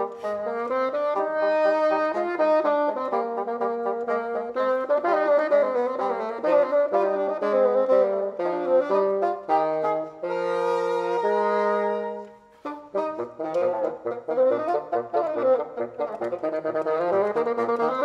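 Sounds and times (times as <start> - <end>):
bassoons playing a duet: 0.0 - 18.0.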